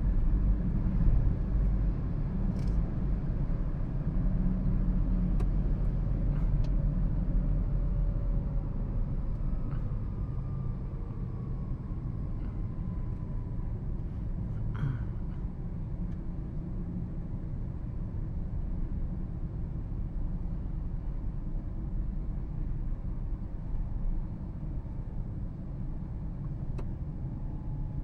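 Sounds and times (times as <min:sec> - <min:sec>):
car driving low rumble: 0:00.0 - 0:28.0.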